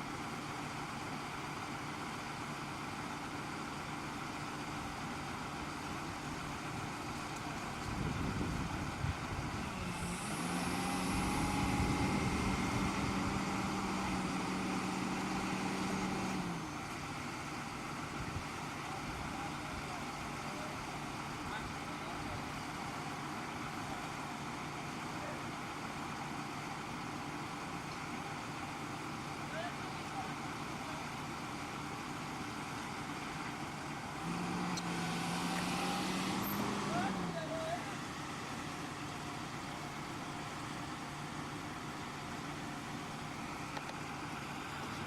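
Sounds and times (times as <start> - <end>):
truck engine idling and revving: 0.0 - 45.0.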